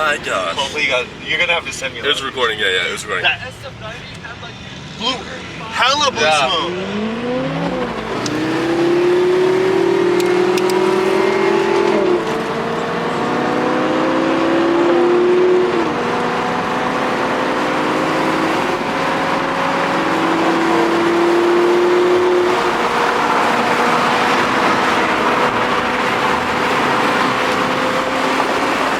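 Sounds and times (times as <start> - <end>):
car engine accelerating hard: 4.2 - 28.9.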